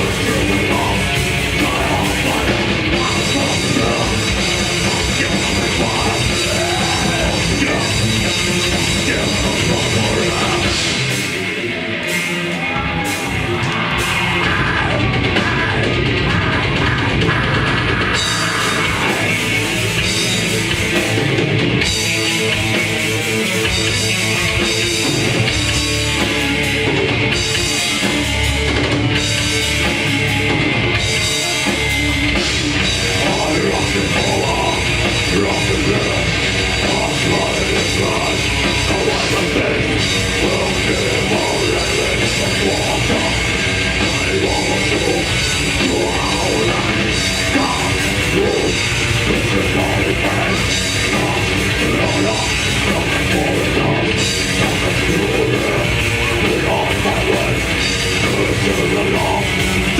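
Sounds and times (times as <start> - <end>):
distorted electric guitars: 0.0 - 59.9
drum kit: 0.0 - 59.9.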